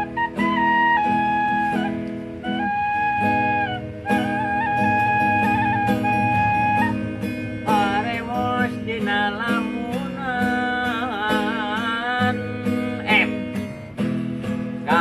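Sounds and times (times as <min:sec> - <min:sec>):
wavering lead melody: 0:00.0 - 0:14.0
plucked guitar: 0:00.0 - 0:15.0.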